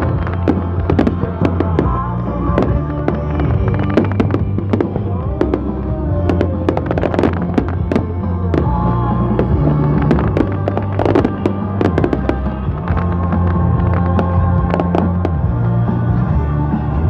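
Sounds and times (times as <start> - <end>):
fireworks bangs and crackles: 0.0 - 15.6
music playing: 0.0 - 17.0.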